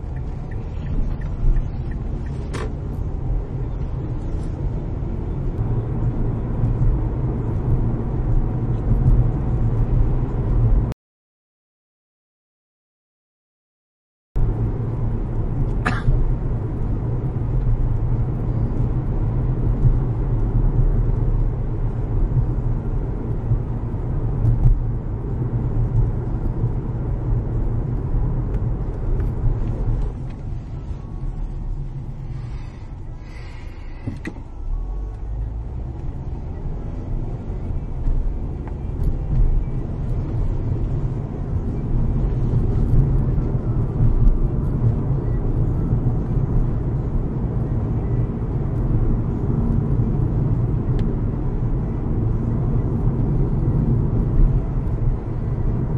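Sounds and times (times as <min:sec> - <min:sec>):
vehicle engine and road noise: 0:00.0 - 0:11.0, 0:14.4 - 0:55.9.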